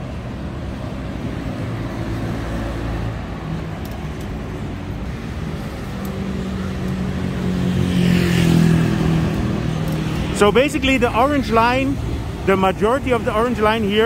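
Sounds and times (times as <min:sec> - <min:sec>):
traffic engine rumble and road noise: 0:00.0 - 0:14.0.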